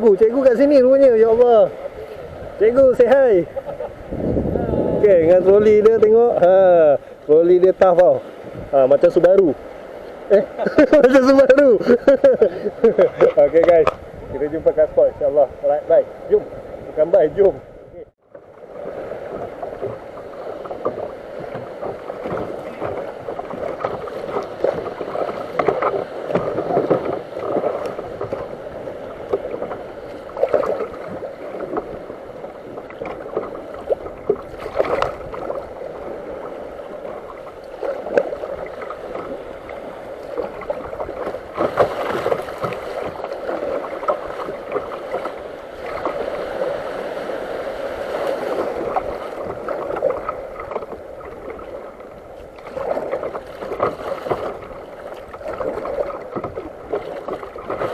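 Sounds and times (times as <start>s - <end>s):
water sloshing and splashing: 0.0s - 57.9s.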